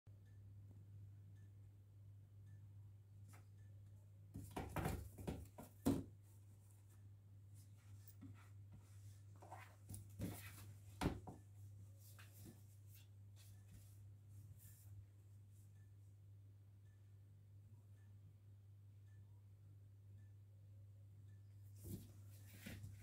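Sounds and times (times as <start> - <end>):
faint low hum: 0.1 - 23.0.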